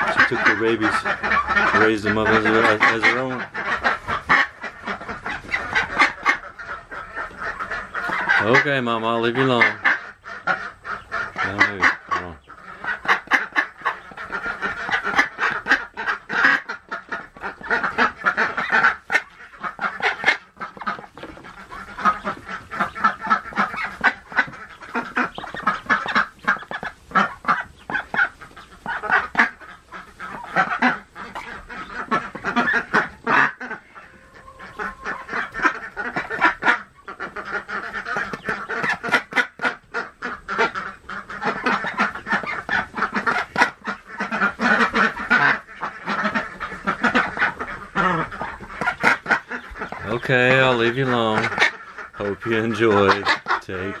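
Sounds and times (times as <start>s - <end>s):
ducklings peeping: 0.0s - 54.0s
mother duck calling: 0.0s - 54.0s.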